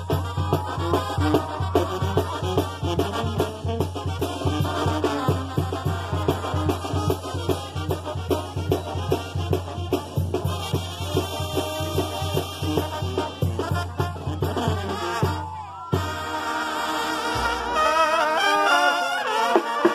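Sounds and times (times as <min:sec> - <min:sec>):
steady drum beat: 0:00.0 - 0:16.4
brass band music: 0:00.0 - 0:19.9.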